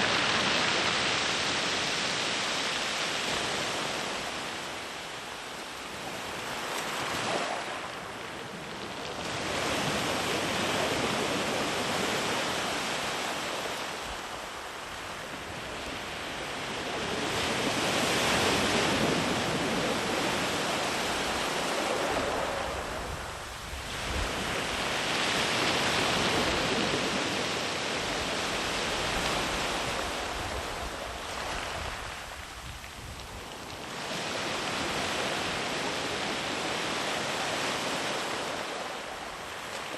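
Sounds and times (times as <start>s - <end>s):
sea waves washing up beach: 0.0s - 39.9s.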